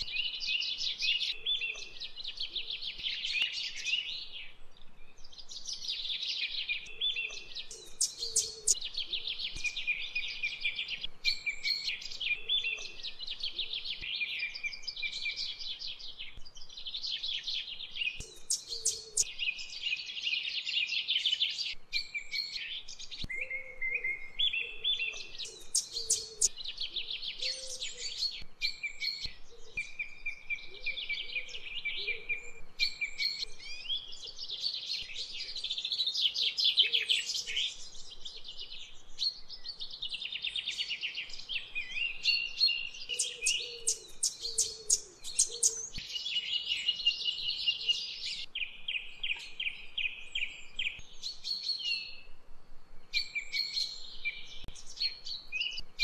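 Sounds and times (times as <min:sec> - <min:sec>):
birds chirping and singing: 0:00.0 - 0:52.3, 0:52.9 - 0:56.0.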